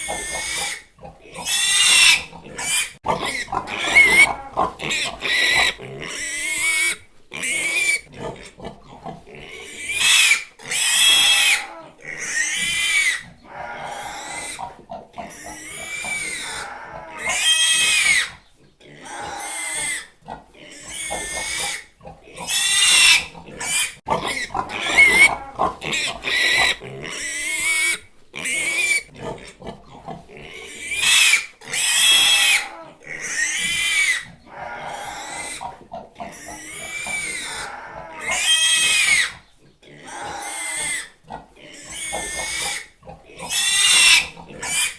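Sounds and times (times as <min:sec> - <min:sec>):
pig grunting: 0:00.0 - 0:44.9
pig squealing: 0:00.0 - 0:44.9.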